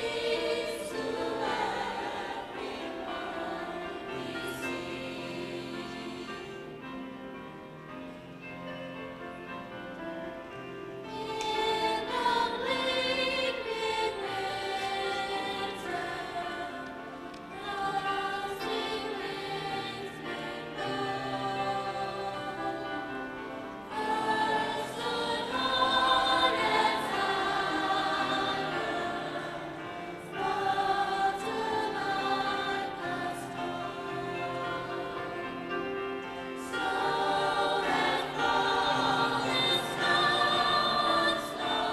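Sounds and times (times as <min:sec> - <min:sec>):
choir singing: 0:00.0 - 0:41.9.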